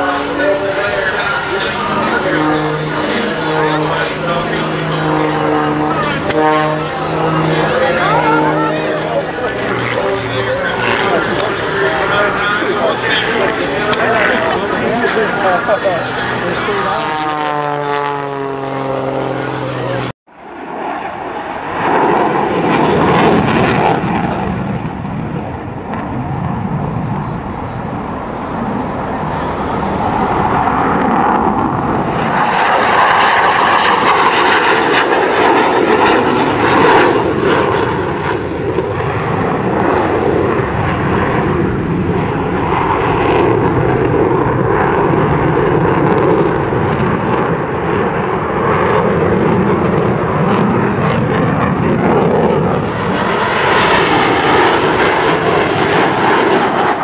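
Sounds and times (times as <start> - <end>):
jet fighter engines roaring: 0.0 - 57.0.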